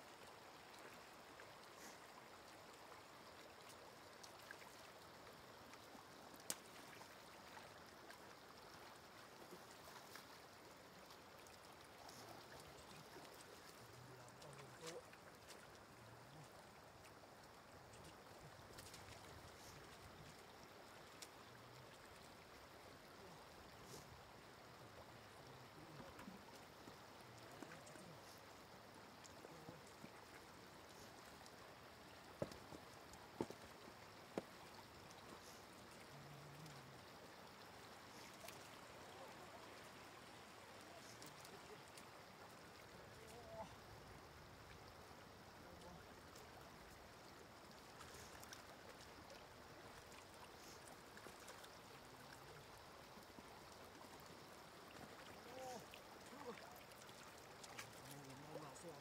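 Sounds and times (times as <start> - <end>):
water trickling over mud: 0.0 - 59.0.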